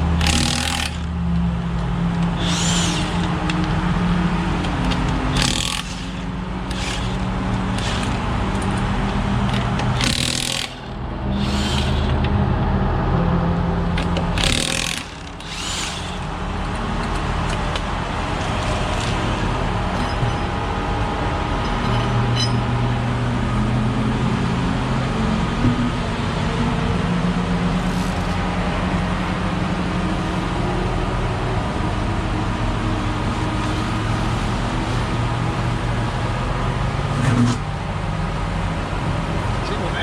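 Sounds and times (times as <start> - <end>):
car engines droning: 0.0 - 40.0.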